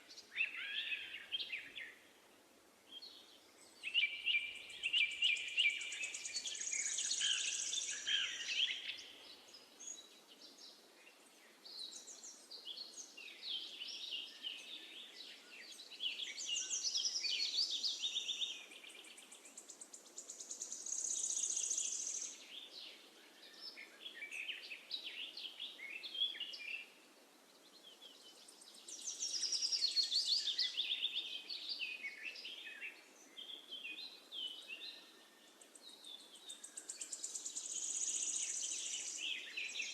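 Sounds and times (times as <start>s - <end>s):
faint steady background hiss: 0.0s - 39.9s
songbirds chirping: 0.0s - 39.9s.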